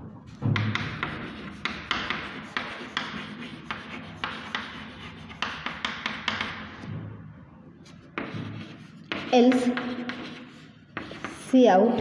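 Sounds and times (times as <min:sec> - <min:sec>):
chalk scratching on blackboard: 0:00.6 - 0:06.7, 0:07.8 - 0:11.6.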